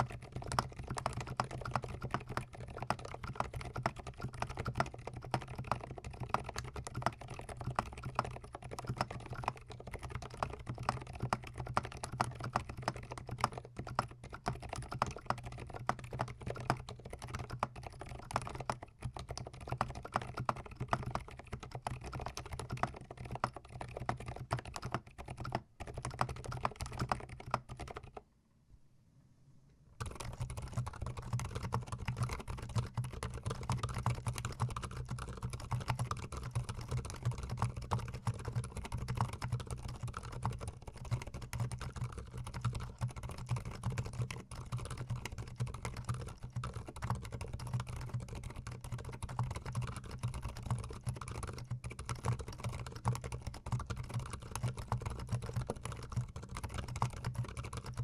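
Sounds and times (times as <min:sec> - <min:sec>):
mechanical keyboard typing: 0:00.0 - 0:28.2, 0:30.0 - 0:58.0.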